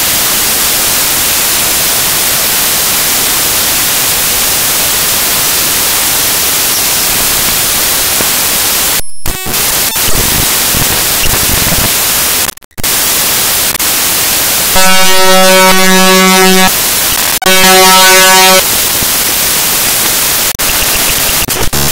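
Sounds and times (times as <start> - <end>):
harsh buzzing tone: 0.0 - 19.8, 20.4 - 21.9
loud static hiss: 0.0 - 21.9.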